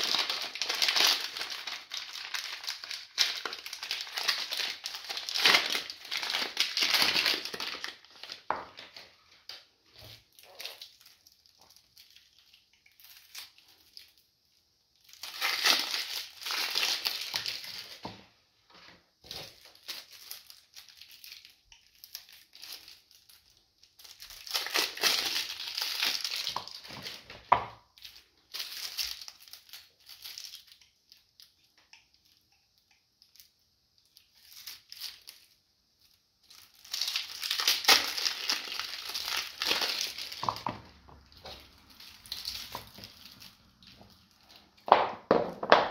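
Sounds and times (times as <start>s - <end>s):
plastic wrap crinkling: 0.0s - 45.9s.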